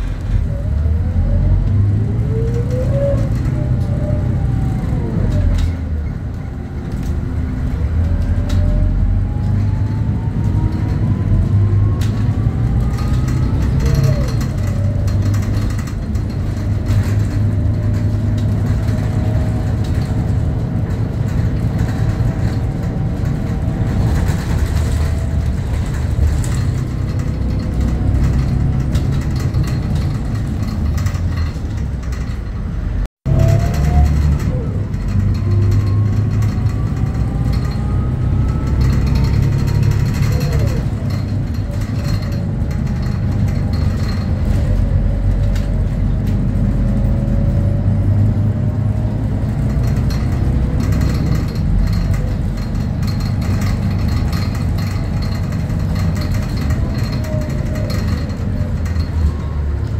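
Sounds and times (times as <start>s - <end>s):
bus diesel engine drone: 0.0s - 59.9s
road rumble: 0.0s - 59.9s.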